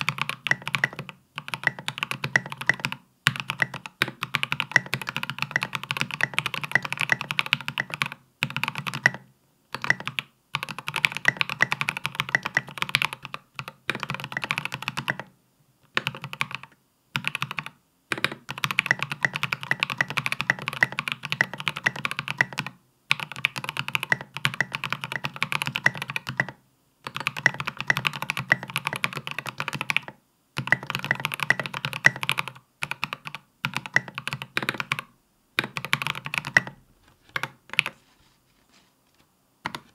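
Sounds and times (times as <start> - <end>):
mechanical keyboard clacks: 0.0 - 9.2, 9.8 - 15.3, 16.0 - 37.9.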